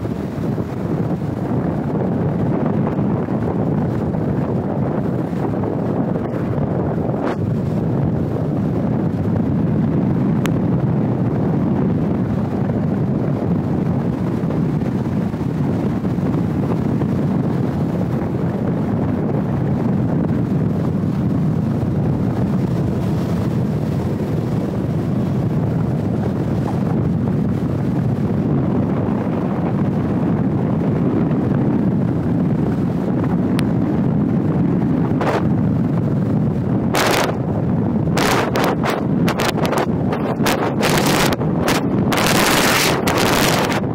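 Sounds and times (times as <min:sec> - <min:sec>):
car road noise: 0:00.0 - 0:43.9
wind rushing over microphone: 0:00.0 - 0:43.9.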